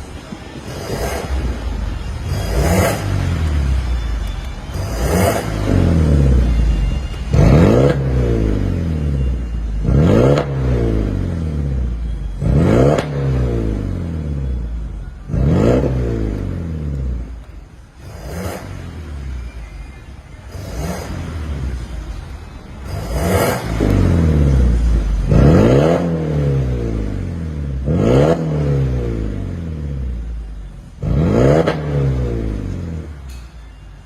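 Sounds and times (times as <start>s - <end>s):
car engine revving: 0.0s - 33.6s.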